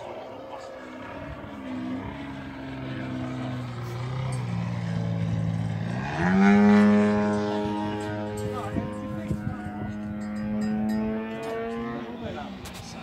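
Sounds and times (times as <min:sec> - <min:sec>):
model aeroplane engine revving: 0:00.0 - 0:13.0.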